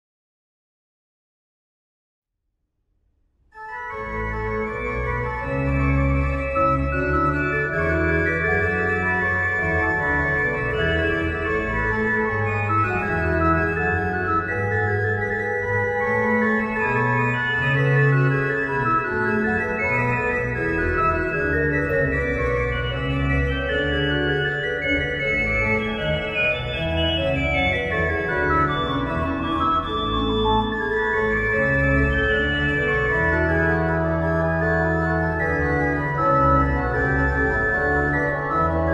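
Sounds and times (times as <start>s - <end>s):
organ playing sustained chords: 3.6s - 38.9s.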